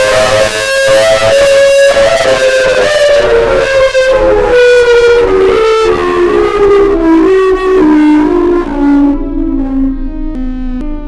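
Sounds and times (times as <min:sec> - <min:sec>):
buzzy horn-like melody: 0:00.0 - 0:11.0
synthesizer-like notes: 0:00.0 - 0:11.0.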